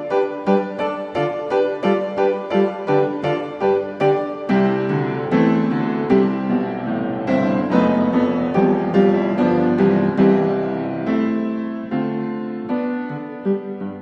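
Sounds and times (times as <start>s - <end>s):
calm piano music: 0.0s - 14.0s.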